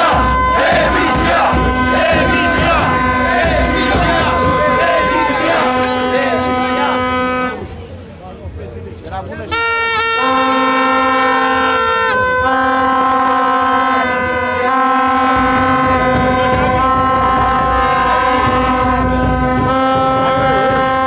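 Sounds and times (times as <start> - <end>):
handheld horns blasting: 0.0 - 7.8, 9.5 - 21.0.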